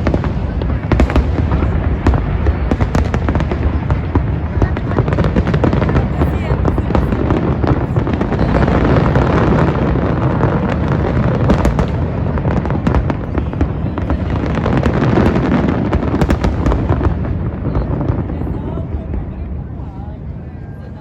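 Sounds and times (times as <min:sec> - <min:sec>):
fireworks bangs: 0:00.0 - 0:20.9.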